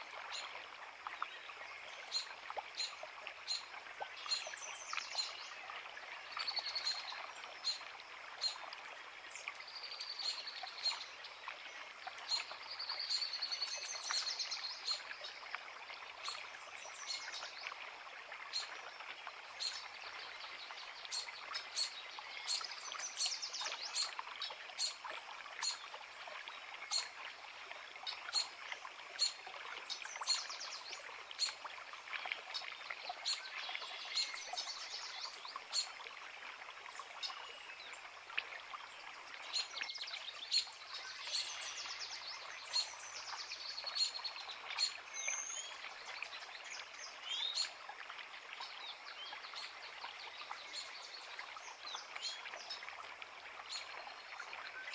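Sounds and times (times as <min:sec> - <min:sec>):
creek babbling: 0:00.0 - 0:54.9.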